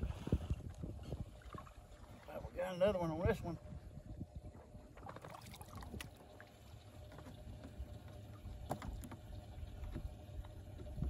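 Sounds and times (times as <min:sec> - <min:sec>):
water lapping at boat side: 0:00.0 - 0:11.0.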